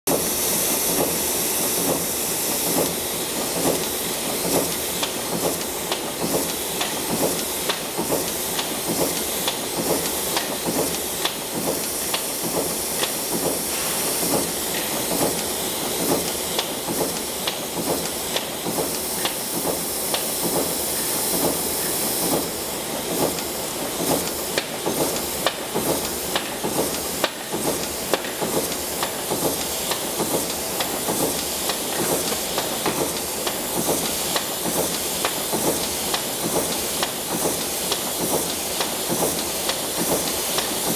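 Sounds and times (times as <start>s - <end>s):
machine hissing: 0.1s - 40.9s.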